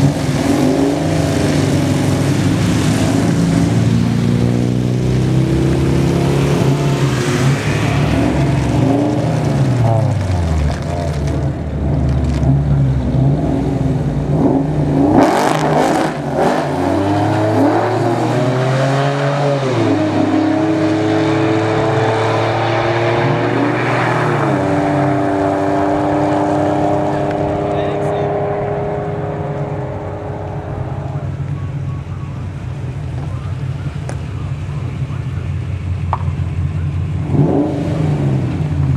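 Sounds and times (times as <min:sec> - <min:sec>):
car engine with exhaust leak revving: 0:00.0 - 0:38.9.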